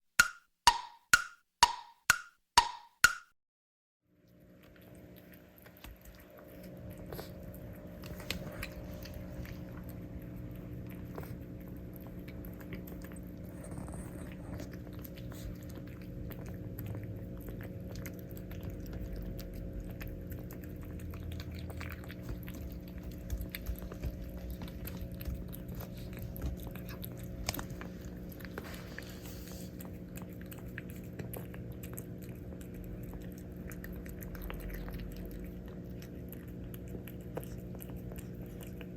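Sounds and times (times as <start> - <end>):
cat chewing food: 4.1 - 38.9
steady low hum: 4.1 - 38.9.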